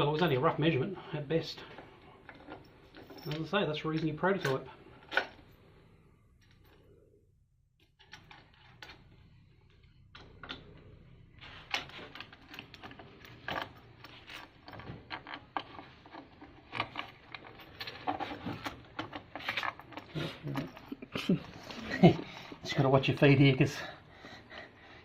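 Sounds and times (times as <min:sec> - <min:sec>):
metal parts and tools clinking: 0:01.6 - 0:05.6, 0:07.8 - 0:23.8.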